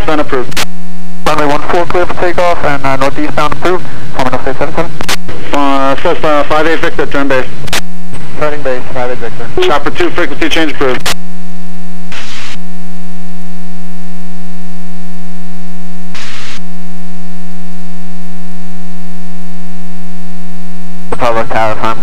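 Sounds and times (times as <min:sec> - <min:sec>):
bursts of static: 0:00.0 - 0:22.0
electrical hum: 0:00.0 - 0:22.0.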